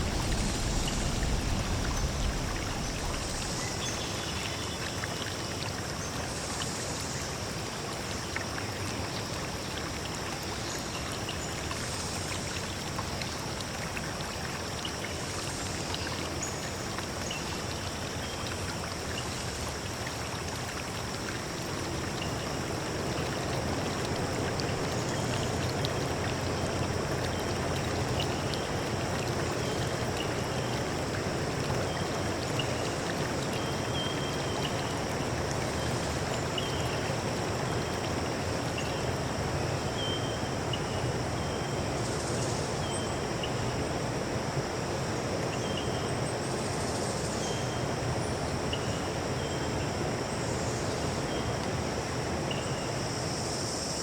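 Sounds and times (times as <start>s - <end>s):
flowing stream water: 0.0s - 54.0s.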